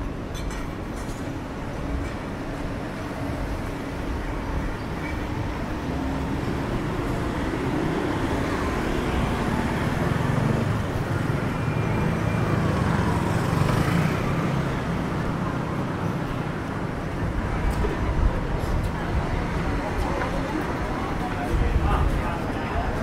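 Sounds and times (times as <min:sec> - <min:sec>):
vehicle engines passing: 0:00.9 - 0:23.0.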